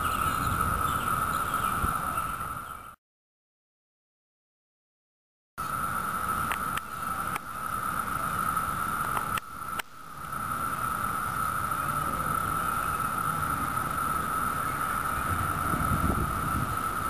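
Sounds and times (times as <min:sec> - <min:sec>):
cicadas chorus drone: 0:00.0 - 0:03.0, 0:05.6 - 0:17.0.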